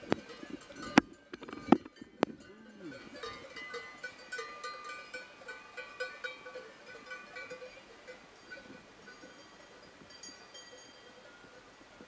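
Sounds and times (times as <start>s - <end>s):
cowbells clanking: 0.0s - 12.0s.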